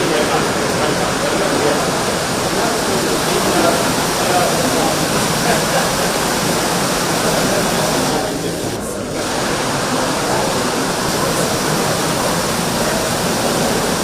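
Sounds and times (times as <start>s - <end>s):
crowd voices talking: 0.0s - 14.0s.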